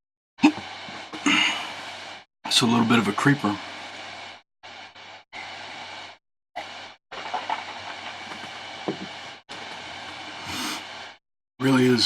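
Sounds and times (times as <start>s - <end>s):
recording hiss and low hum: 0.4s - 12.0s.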